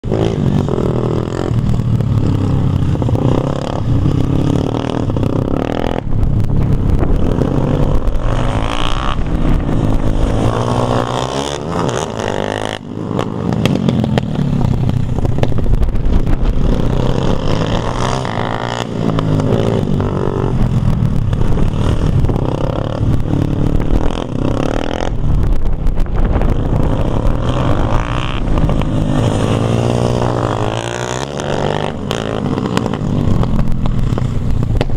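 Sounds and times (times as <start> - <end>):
dirt bike engine revving: 0.0 - 34.4.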